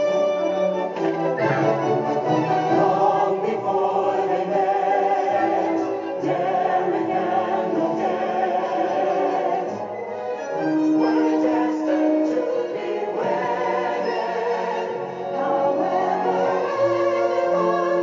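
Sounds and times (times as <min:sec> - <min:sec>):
musical accompaniment: 0:00.0 - 0:18.0
choir singing slow song: 0:01.0 - 0:18.0.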